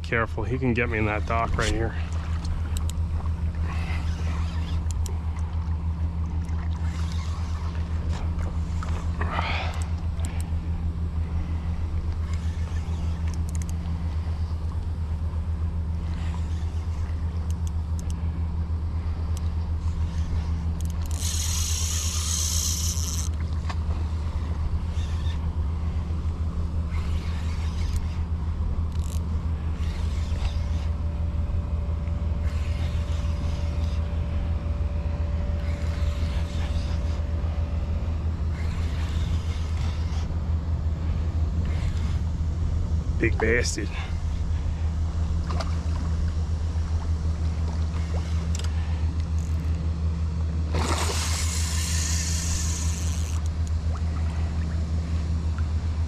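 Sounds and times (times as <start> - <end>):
low motor hum: 0.0 - 56.0.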